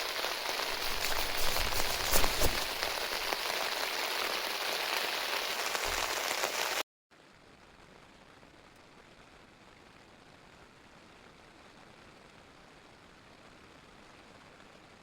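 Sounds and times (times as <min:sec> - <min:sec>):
faint hiss: 0:00.0 - 0:14.8
heavy rain on a surface: 0:00.0 - 0:15.0.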